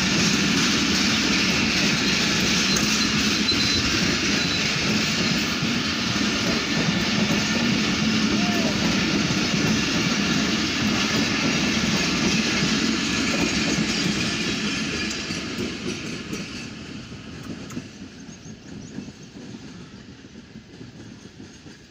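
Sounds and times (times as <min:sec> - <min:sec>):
train wheels clattering on rails: 0:00.0 - 0:21.9.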